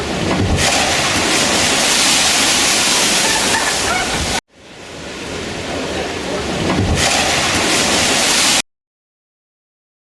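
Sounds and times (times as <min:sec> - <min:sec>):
rushing storm water: 0:00.0 - 0:08.6.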